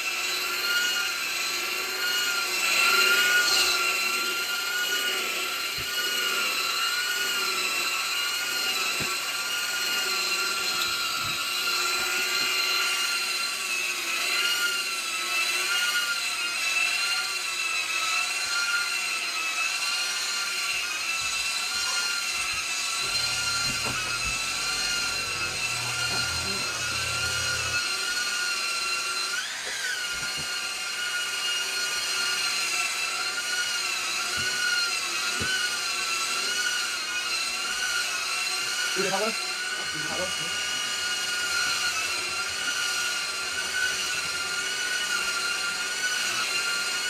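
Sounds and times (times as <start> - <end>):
vacuum cleaner whine: 0.0 - 47.0.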